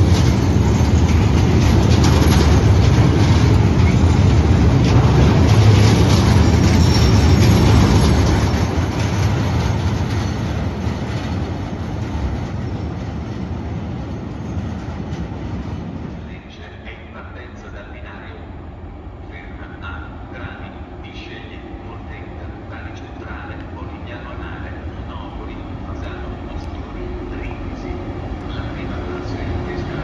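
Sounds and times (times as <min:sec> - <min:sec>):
freight train passing: 0:00.0 - 0:30.0.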